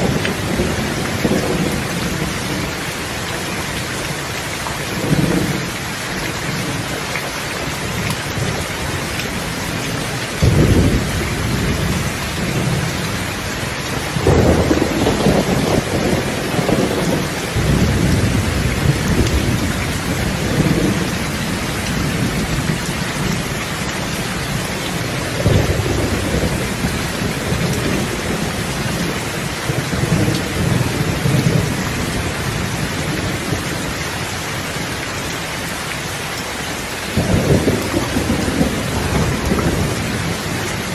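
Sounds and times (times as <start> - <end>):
thunder rumbling: 0.0 - 4.1, 4.7 - 6.9, 7.6 - 34.2, 37.0 - 40.9
heavy rain hissing: 0.0 - 40.9.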